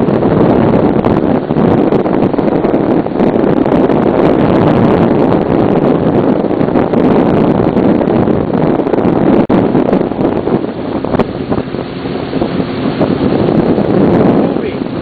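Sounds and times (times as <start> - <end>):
personal watercraft engine: 0.0 - 15.0
wind buffeting microphone: 0.0 - 15.0.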